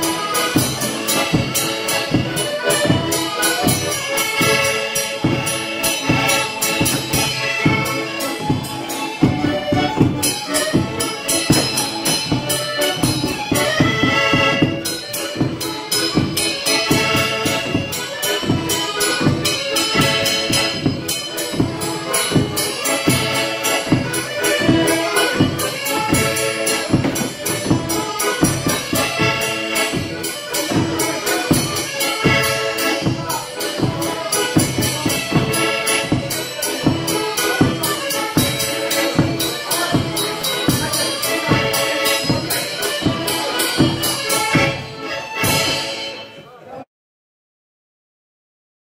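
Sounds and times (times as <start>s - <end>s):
bass drum and cymbal beat: 0.0s - 46.2s
fiddle: 0.0s - 46.6s
piano accordion: 0.0s - 46.6s.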